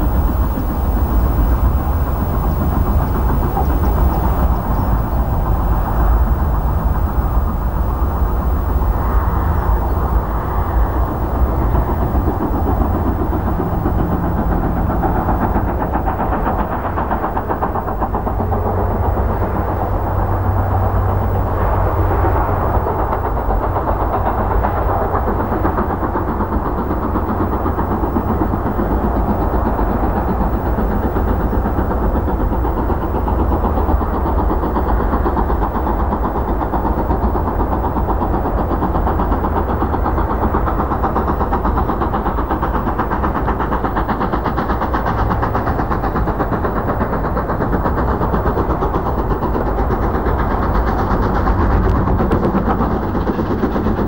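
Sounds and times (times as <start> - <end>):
steam locomotive rumbling: 0.0 - 54.0.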